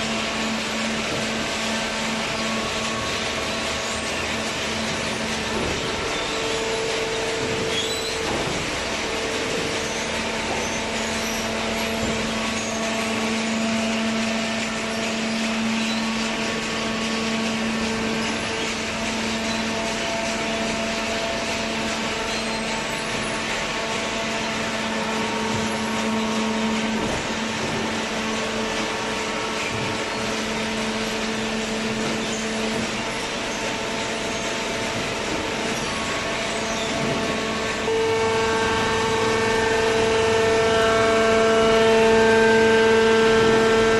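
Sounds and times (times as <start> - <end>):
baler machine hum with whine: 0.0 - 43.9.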